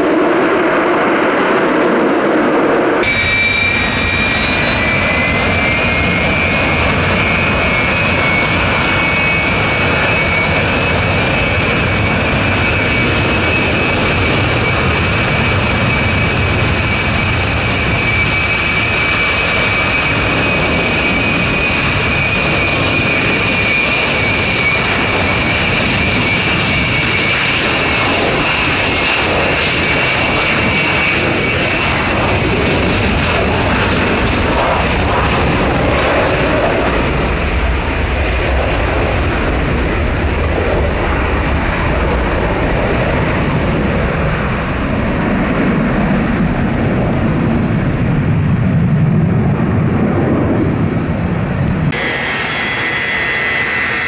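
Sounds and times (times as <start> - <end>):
jet engines roaring with whine: 0.0 - 54.0.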